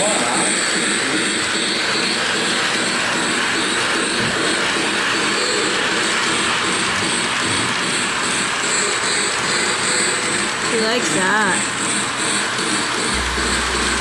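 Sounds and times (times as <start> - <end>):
toy train running on track: 0.0 - 14.0.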